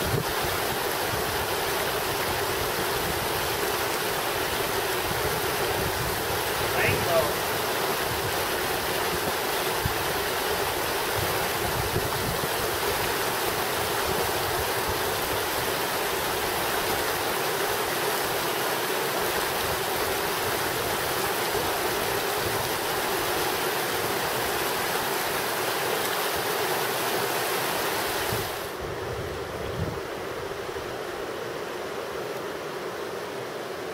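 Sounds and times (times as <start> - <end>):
water rushing over rocks: 0.0 - 33.9.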